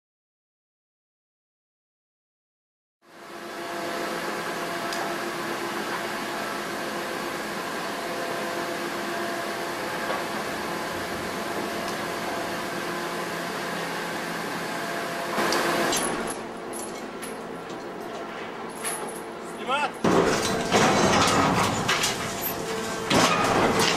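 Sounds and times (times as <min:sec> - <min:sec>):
heavy machinery humming: 0:03.1 - 0:23.9.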